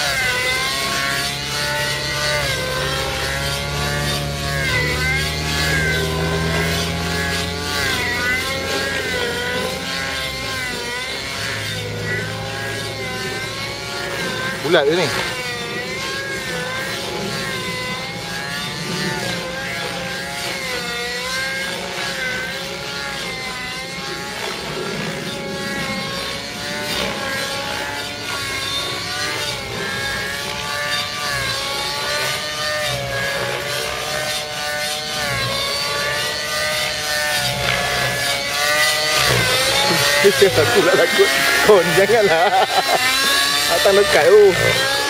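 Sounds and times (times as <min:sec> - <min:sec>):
rc helicopter engine whine: 0:00.0 - 0:45.0.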